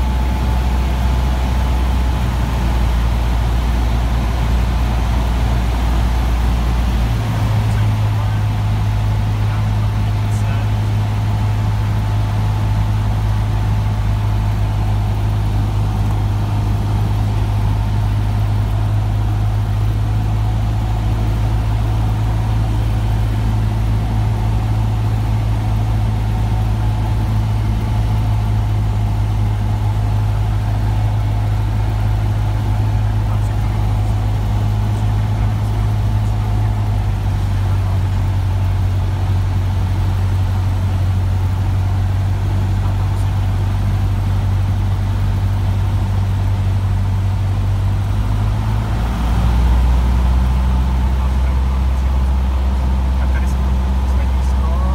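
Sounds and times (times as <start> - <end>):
airplane engine and propeller droning: 0.0 - 54.9.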